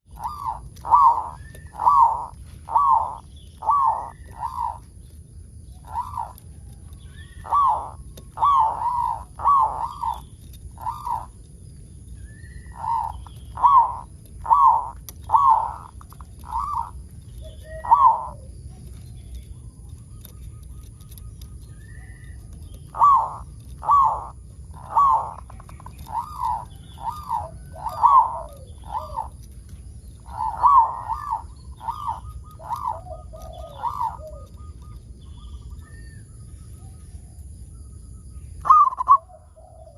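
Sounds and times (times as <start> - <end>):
dove cooing: 0.0 - 36.3, 38.6 - 39.9.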